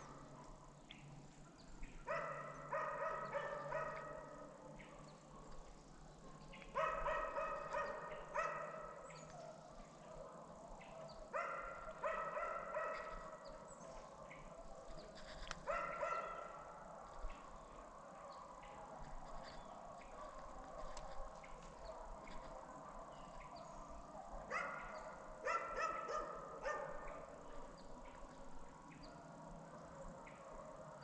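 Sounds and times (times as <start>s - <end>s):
hounds barking: 2.0s - 5.8s, 6.4s - 31.0s.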